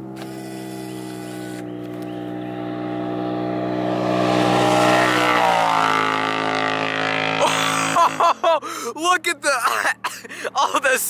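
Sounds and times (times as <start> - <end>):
off-road vehicle engine passing: 0.0 - 9.5.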